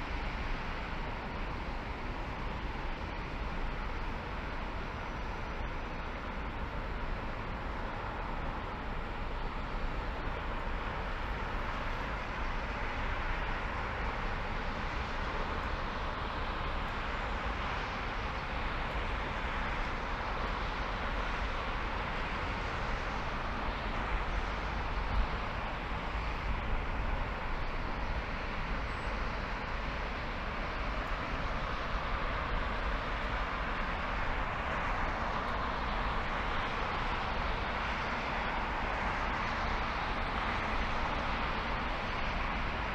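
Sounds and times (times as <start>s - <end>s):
deep constant car rumble: 0.0s - 42.9s
tyre and wind hiss: 0.0s - 42.9s.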